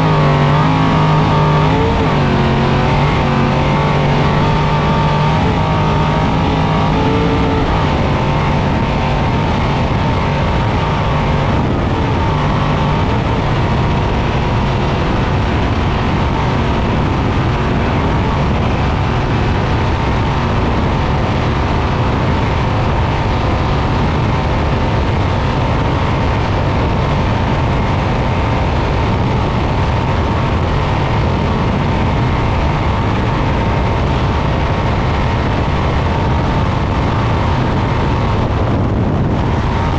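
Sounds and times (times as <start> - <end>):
loud rush of noise: 0.0 - 39.9
truck engine running hard: 0.0 - 39.9.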